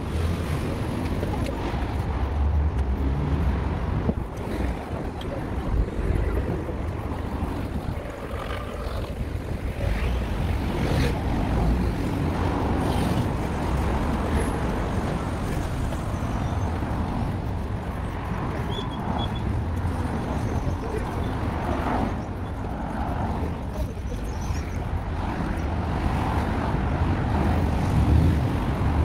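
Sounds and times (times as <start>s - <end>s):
low traffic rumble: 0.0s - 29.0s
wind on microphone: 0.0s - 29.0s.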